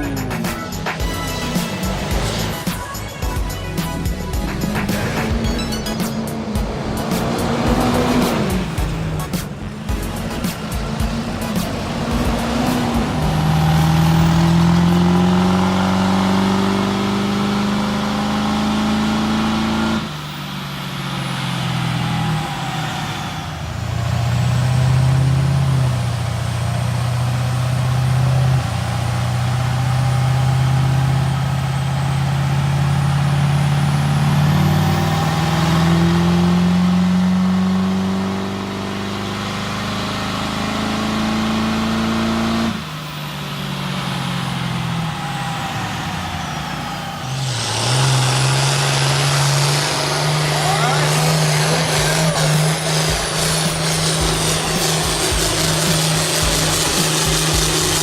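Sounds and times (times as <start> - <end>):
diesel truck engine revving high: 0.0 - 58.0.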